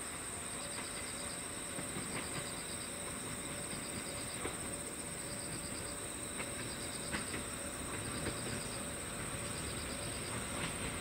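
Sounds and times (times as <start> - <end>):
insect chirping in rapid pulses: 0.4 - 10.6.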